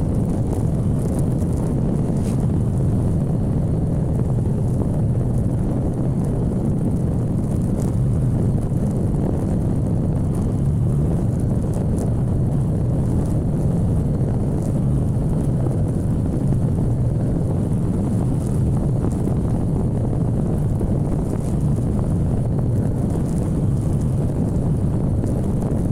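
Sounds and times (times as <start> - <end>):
motorcycle engine rumbling: 0.0 - 25.9
road noise: 0.0 - 25.9.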